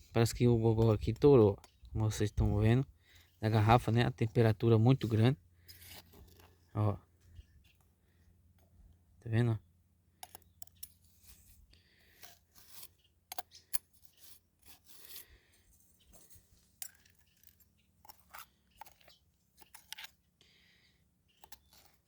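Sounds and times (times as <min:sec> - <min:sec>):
digging scrapes and crunches: 0:00.0 - 0:06.9, 0:10.2 - 0:20.4, 0:21.3 - 0:22.0.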